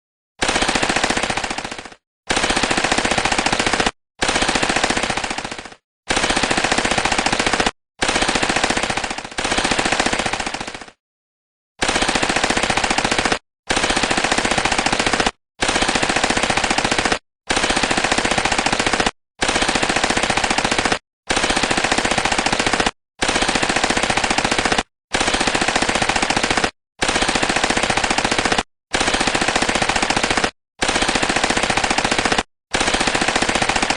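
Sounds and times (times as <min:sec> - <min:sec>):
machine gun automatic fire: 0:00.4 - 0:11.0, 0:11.8 - 0:33.9.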